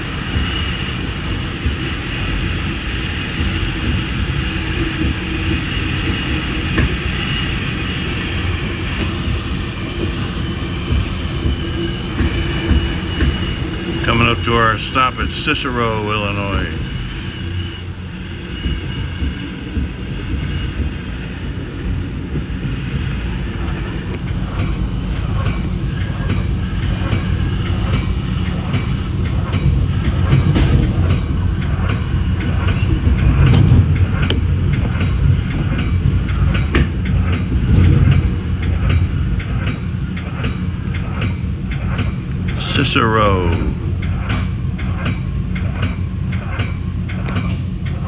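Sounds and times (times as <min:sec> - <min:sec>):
train rolling low rumble: 0:00.0 - 0:48.0.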